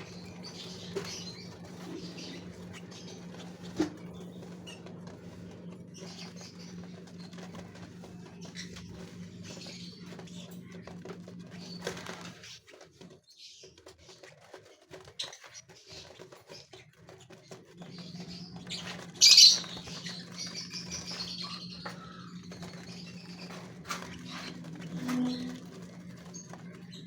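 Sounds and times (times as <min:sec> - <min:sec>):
finches chirping: 0:00.0 - 0:12.8, 0:15.0 - 0:27.0
wings fluttering: 0:00.0 - 0:27.0.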